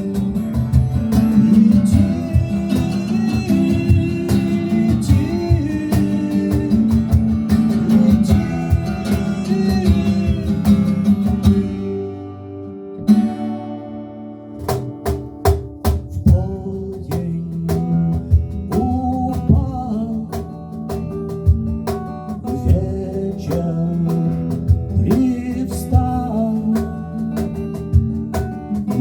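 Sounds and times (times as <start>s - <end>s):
strummed guitar: 0.0s - 29.0s.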